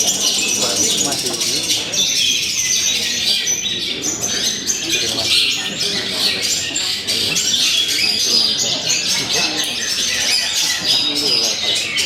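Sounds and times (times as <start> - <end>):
faint murmuring voices: 0.0 - 12.0
songbirds chirping and trilling: 0.0 - 12.0.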